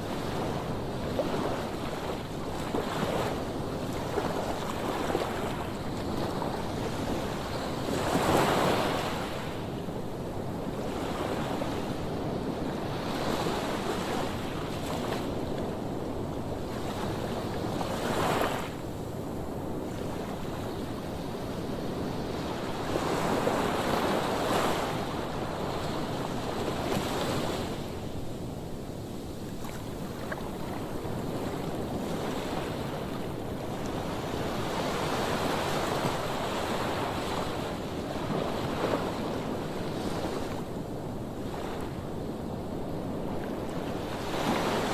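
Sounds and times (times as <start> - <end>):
wind on microphone: 0.0 - 44.9.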